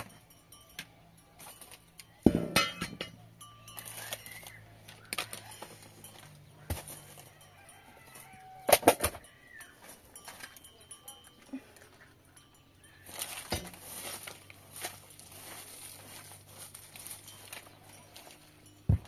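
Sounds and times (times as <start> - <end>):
sharp knocks and clinks: 0.0 - 19.0.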